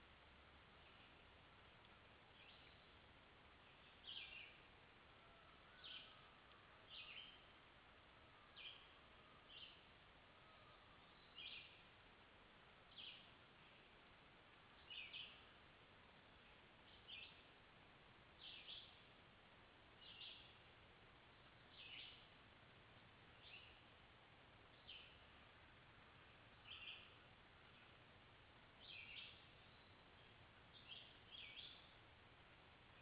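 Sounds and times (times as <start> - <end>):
steady low hiss: 0.0 - 33.0.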